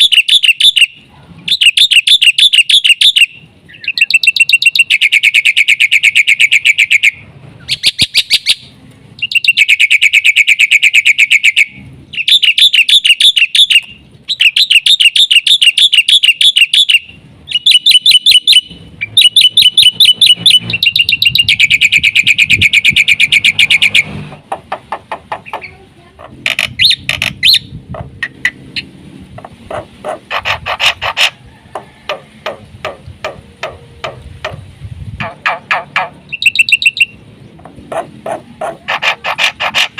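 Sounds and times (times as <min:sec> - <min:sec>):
bird singing rattling notes: 0:00.0 - 0:39.9.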